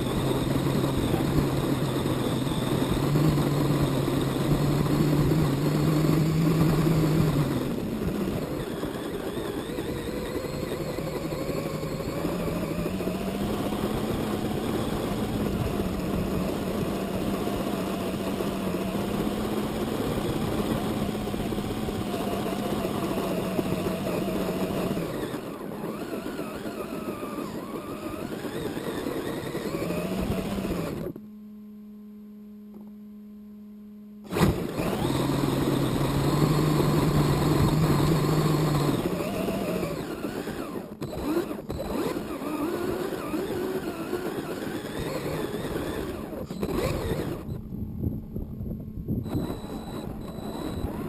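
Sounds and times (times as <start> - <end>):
toy car motor whining: 0.0 - 31.2, 34.2 - 47.6, 49.2 - 51.0.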